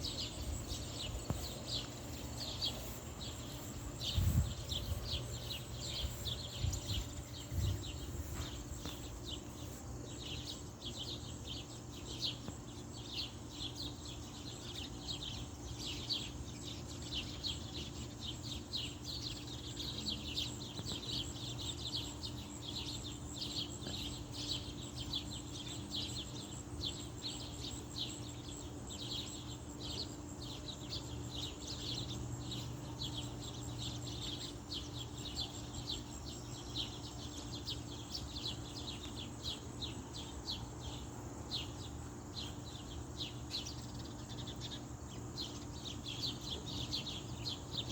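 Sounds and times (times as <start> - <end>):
birds chirping: 0.0 - 47.9
low background hum: 0.0 - 47.9.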